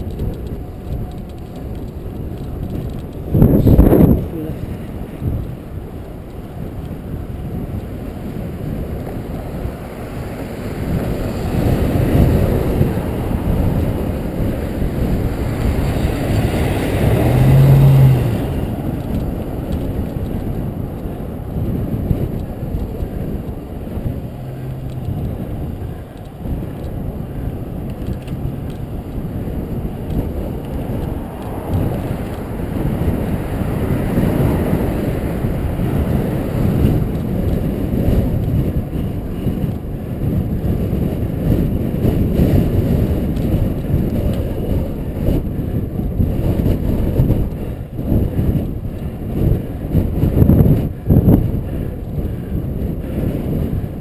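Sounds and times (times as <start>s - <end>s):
vehicle engine hum: 0.0s - 54.0s
wind rushing over microphone: 0.0s - 54.0s.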